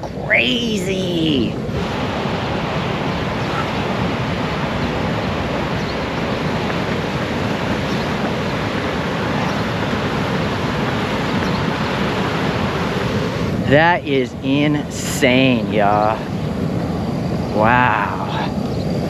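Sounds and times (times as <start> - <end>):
floodwater rushing through spillway: 0.5 - 16.3, 17.6 - 18.4.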